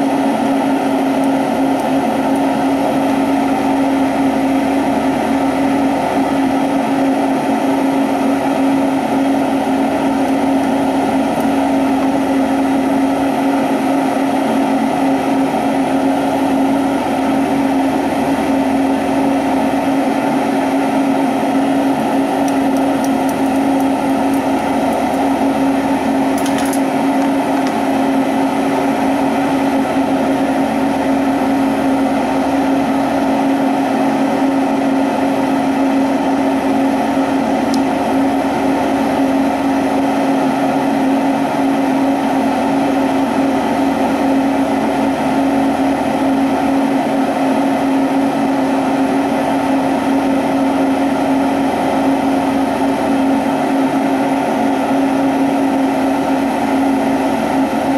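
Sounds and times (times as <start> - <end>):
torch flame roaring: 0.0 - 57.9.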